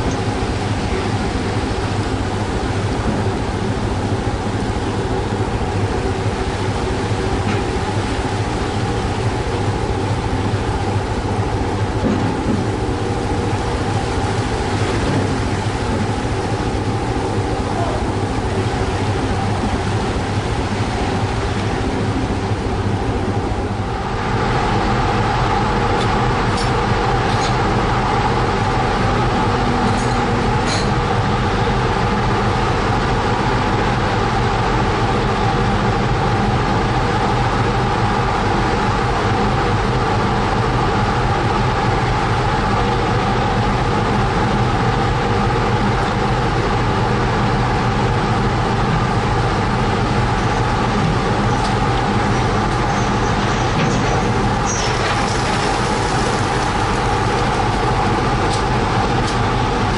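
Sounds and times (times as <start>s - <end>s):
ship engine and deck machinery drone: 0.0s - 59.9s.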